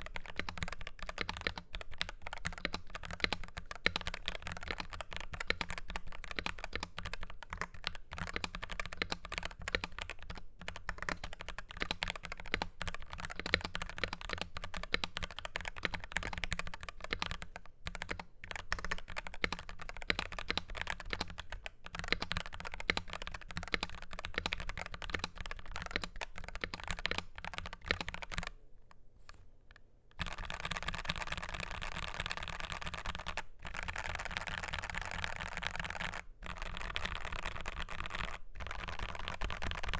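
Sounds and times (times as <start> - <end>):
mechanical keyboard typing: 0.0 - 28.6, 30.2 - 39.9.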